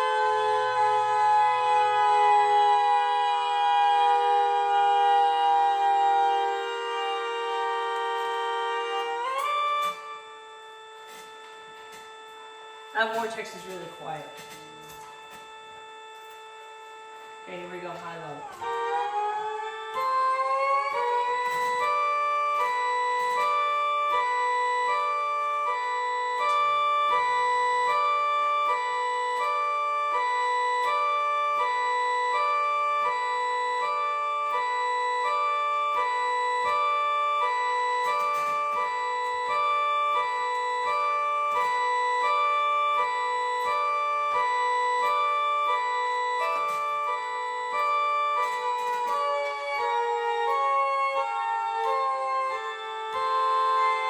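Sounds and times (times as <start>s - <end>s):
two-tone air raid siren: 0.0s - 54.0s.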